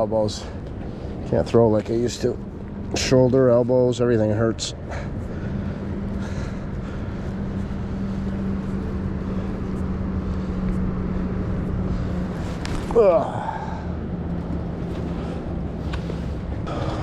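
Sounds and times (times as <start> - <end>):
engine-like drone: 0.0 - 17.0
outdoor background noise: 0.0 - 17.0.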